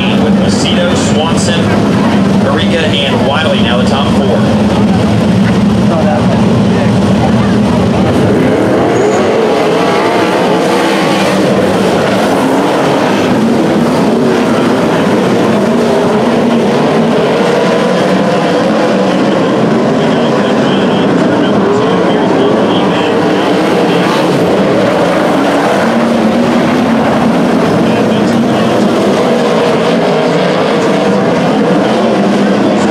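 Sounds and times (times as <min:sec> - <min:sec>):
race car engines: 0:00.0 - 0:32.9.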